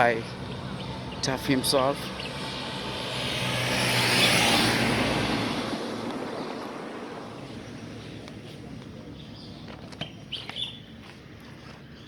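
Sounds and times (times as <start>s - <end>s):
vehicle passing: 0.0s - 11.4s
outdoor background: 0.0s - 12.0s.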